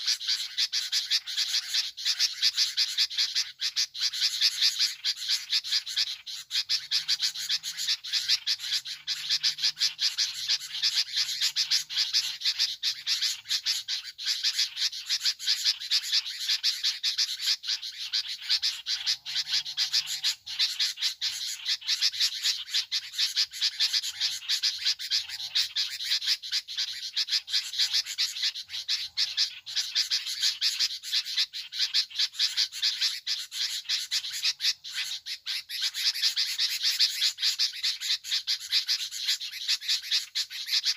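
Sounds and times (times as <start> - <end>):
frogs chorus calling: 0.0 - 40.9.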